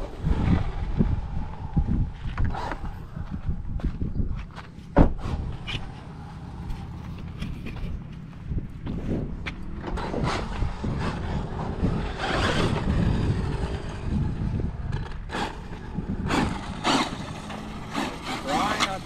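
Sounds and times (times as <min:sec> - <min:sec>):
steady low rumble: 0:00.0 - 0:18.5
faint motor whine: 0:00.0 - 0:19.0
tyres on gravel: 0:00.0 - 0:19.0.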